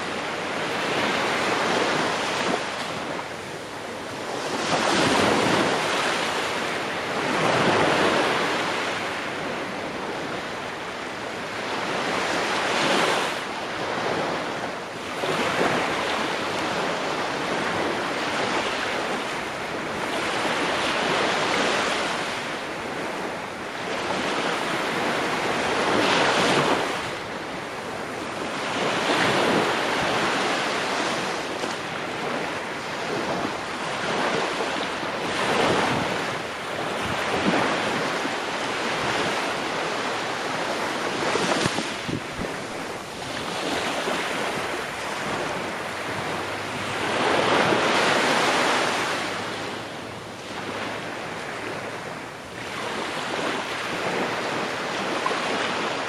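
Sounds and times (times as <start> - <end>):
ocean waves breaking on shore: 0.0 - 56.0
steady rush of surf: 0.0 - 56.0.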